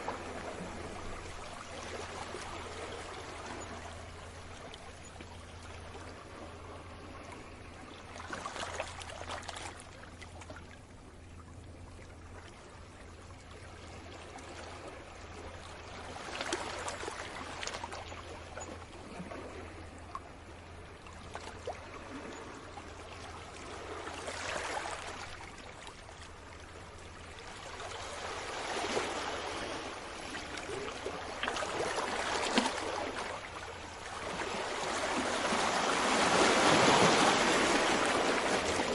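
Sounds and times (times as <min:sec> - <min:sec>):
small waves washing on shore: 0:00.0 - 0:10.8, 0:13.5 - 0:38.9.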